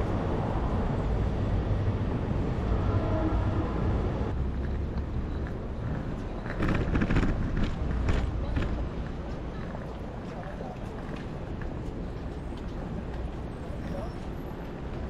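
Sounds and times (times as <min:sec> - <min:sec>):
wind rumbling on microphone: 0:00.0 - 0:13.5
city traffic noise: 0:00.0 - 0:15.0.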